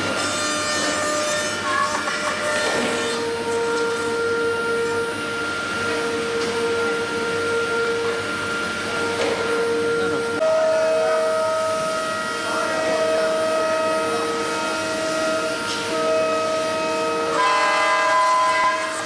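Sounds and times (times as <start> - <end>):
cnc router whining: 0.0 - 19.0.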